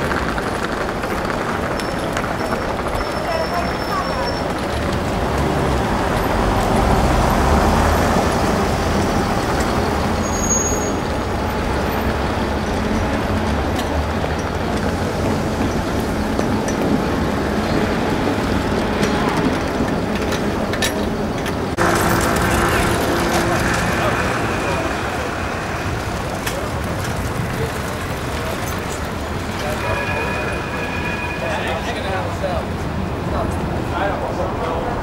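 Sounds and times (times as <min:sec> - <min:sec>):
cars passing on wet road: 0:00.0 - 0:20.8, 0:21.6 - 0:35.0.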